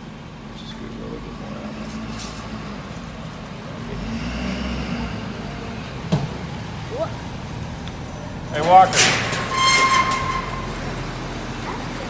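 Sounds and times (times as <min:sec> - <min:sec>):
ambulance engine rumble: 0:00.0 - 0:12.0.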